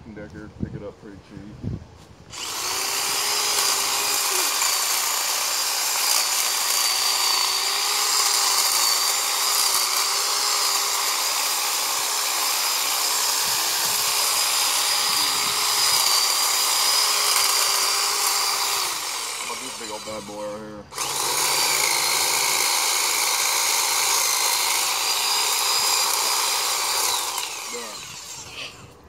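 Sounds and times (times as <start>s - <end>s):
electric hedge trimmer cutting brush: 2.3s - 29.0s.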